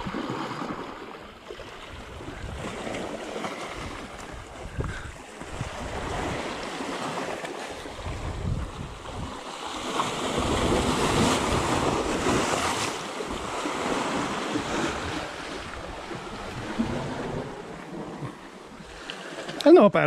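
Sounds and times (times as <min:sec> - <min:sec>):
sea waves washing: 0:00.0 - 0:20.0
wind rumbling on microphone: 0:01.7 - 0:07.2, 0:07.8 - 0:19.0.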